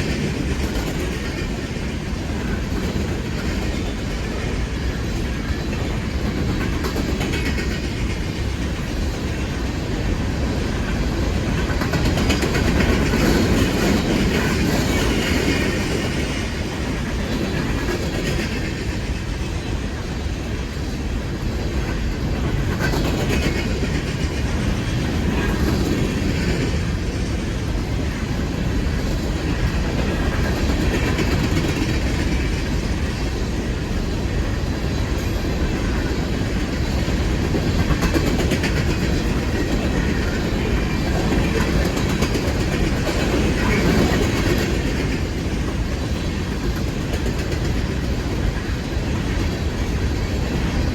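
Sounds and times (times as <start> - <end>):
train passing: 0.0 - 50.9.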